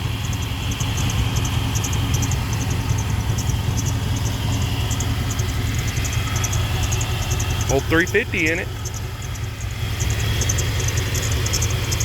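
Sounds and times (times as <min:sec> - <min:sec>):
pickup engine idling: 0:00.0 - 0:12.0
belt squeak chirping: 0:00.2 - 0:12.0.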